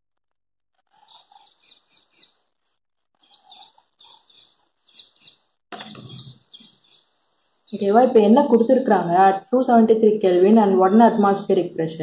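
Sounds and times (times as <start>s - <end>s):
small bird chirping: 0.9s - 2.5s, 3.2s - 11.4s.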